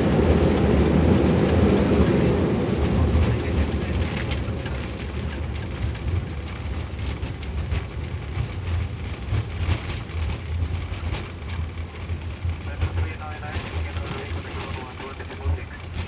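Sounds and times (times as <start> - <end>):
aircraft low rumble: 0.0 - 16.0.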